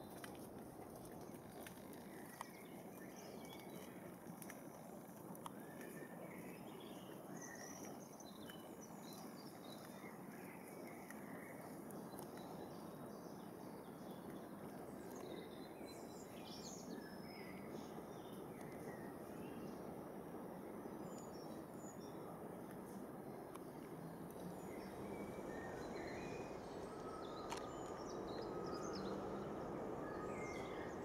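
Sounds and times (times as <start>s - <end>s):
low background hiss: 0.0s - 31.0s
small birds chirping: 0.0s - 31.0s.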